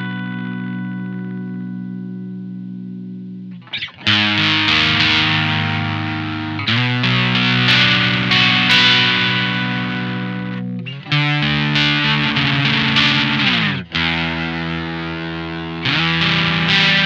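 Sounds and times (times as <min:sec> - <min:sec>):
fuzz electric guitar chords: 0:00.0 - 0:17.0.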